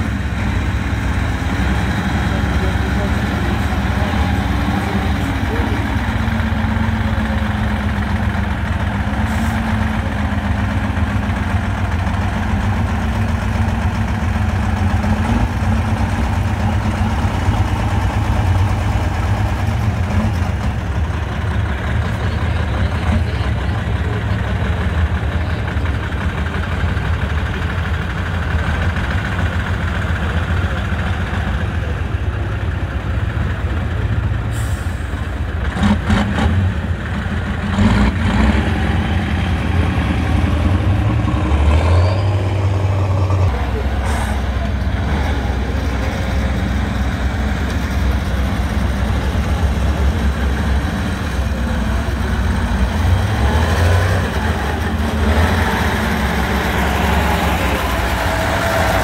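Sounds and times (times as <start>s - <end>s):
truck engine droning under load: 0.0s - 59.0s.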